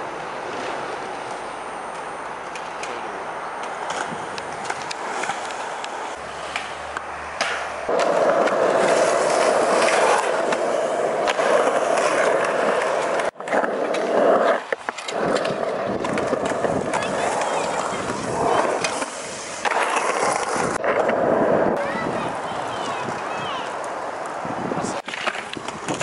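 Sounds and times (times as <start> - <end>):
skateboard wheels rolling on concrete: 0.0 - 26.0
skateboard clicks and knocks: 0.4 - 26.0.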